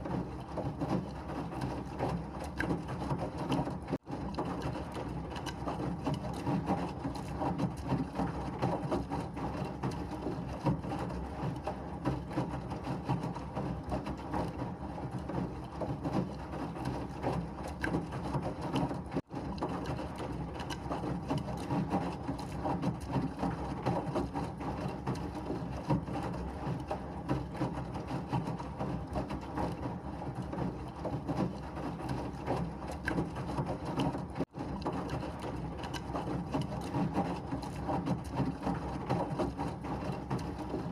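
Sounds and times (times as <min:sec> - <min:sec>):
washing machine whirring: 0:00.0 - 0:40.9.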